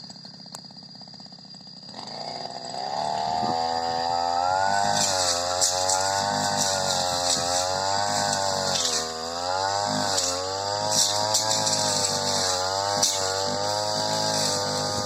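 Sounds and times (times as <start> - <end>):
brush cutter engine at high revs: 0.0 - 15.0.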